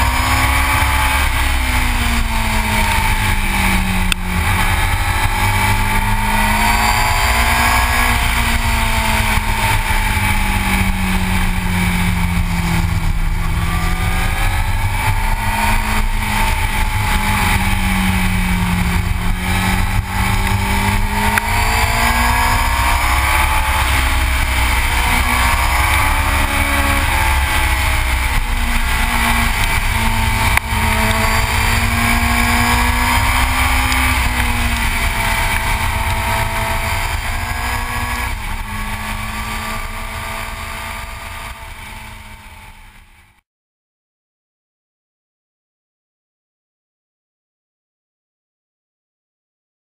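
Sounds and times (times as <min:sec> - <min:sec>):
wind rush on microphone: 0:00.0 - 0:43.2
motorcycle engine running: 0:00.0 - 0:43.4.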